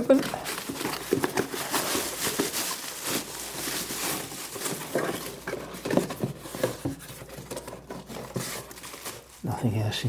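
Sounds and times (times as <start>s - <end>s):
cardboard box rustling and scraping: 0.1s - 9.4s.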